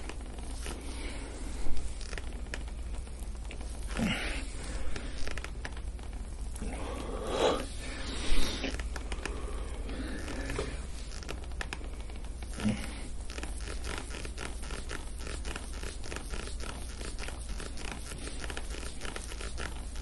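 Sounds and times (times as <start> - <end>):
hands scratching over skin: 0.0 - 20.0
steady low hum: 0.0 - 20.0.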